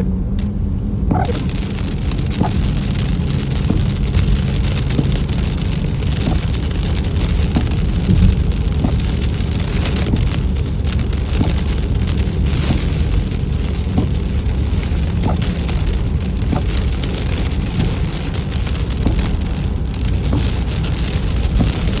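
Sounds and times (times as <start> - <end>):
deep steady rumble: 0.0 - 22.0
heavy rain falling: 1.1 - 22.0.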